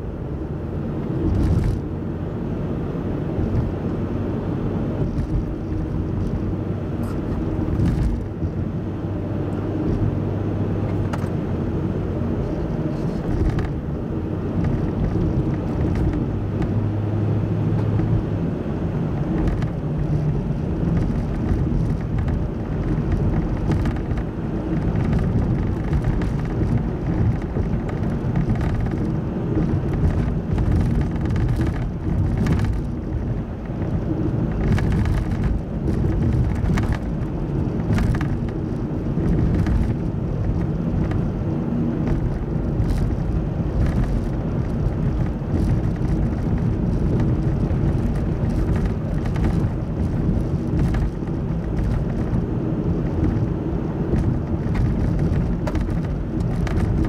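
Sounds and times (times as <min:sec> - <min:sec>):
car engine hum: 0:00.0 - 0:57.0
road and tyre rumble: 0:00.0 - 0:57.0.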